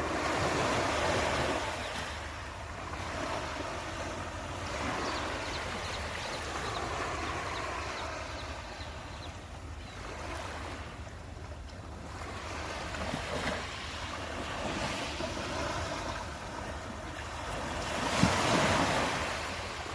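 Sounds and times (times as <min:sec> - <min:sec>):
waves breaking on shore: 0:00.0 - 0:19.9.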